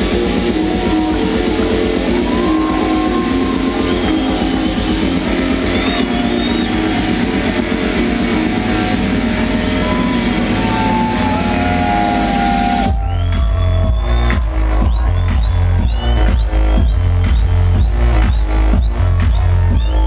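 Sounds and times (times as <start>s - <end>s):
house techno music: 0.0s - 20.0s.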